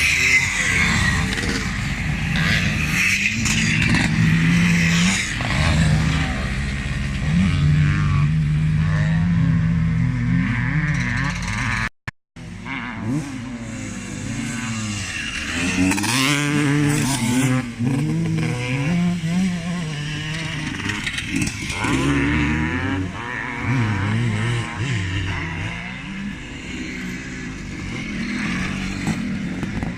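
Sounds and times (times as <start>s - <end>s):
motocross motorcycles revving: 0.0s - 29.9s.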